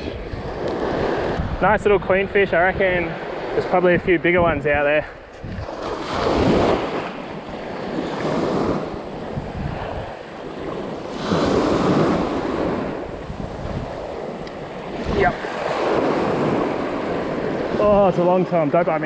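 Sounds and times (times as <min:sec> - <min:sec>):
small waves washing on sand: 0:00.0 - 0:04.3, 0:04.9 - 0:19.0.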